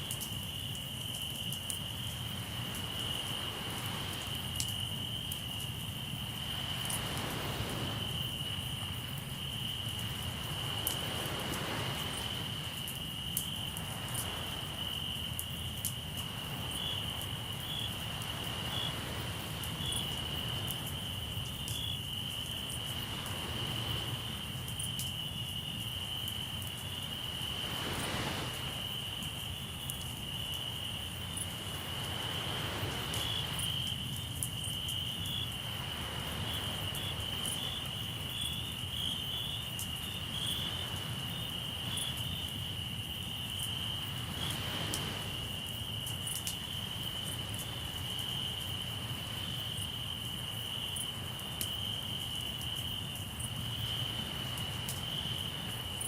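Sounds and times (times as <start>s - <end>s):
campfire crackling: 0.0s - 56.0s
crickets chirping: 0.0s - 56.0s
waves washing on shore: 0.0s - 56.0s.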